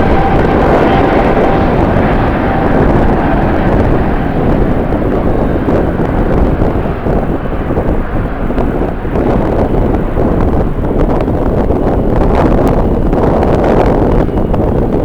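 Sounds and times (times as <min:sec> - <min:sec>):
jet engines roaring: 0:00.0 - 0:15.0
wind buffeting microphone: 0:00.0 - 0:15.0.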